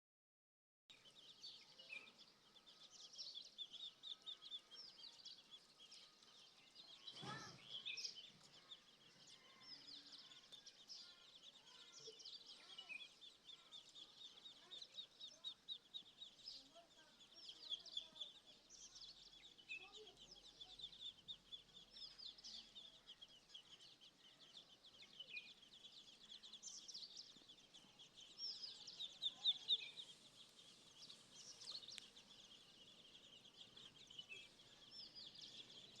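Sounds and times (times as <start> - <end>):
small birds chirping: 0.9 - 36.0.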